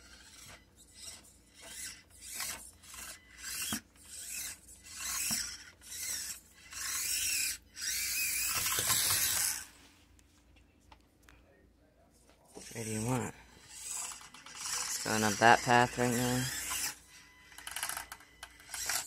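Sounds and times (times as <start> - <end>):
rc truck motor bursts: 0.0 - 9.7, 12.6 - 19.0.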